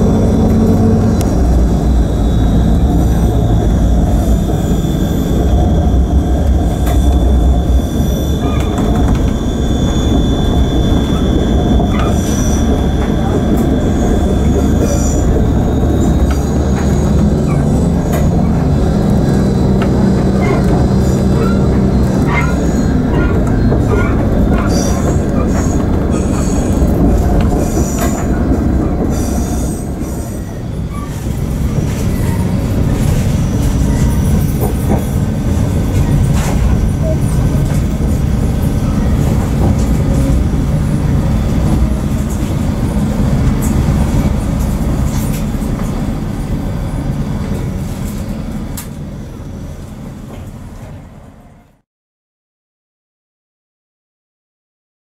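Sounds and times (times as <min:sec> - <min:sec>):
diesel engine drone: 0:00.0 - 0:51.7
train wheels squealing: 0:00.2 - 0:48.3.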